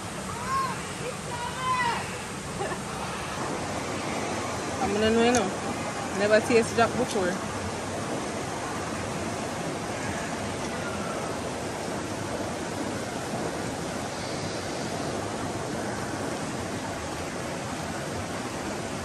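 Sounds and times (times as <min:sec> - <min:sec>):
waterfall and river rushing: 0:00.0 - 0:19.0.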